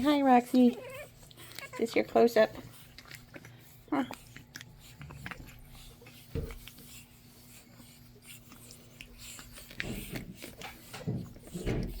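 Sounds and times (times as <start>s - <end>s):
puppies scuffling and scratching: 0.0s - 12.0s.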